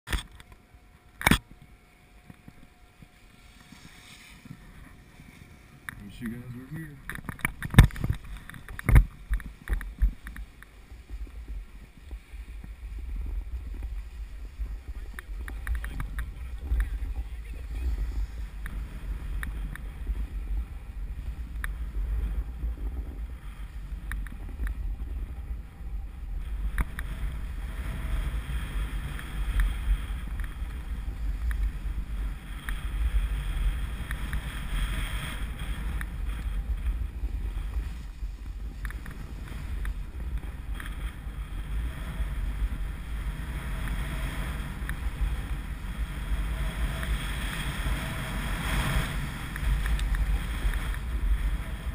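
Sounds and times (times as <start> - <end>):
low rumble: 0.1 - 51.9
wind buffeting microphone: 0.1 - 51.9
skis scraping over snow: 0.5 - 51.9.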